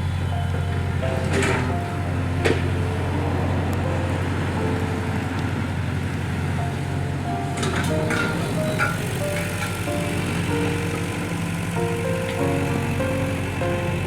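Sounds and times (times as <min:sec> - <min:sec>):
background music with simple melody: 0:00.0 - 0:14.0
excavator diesel engine running: 0:00.0 - 0:14.0.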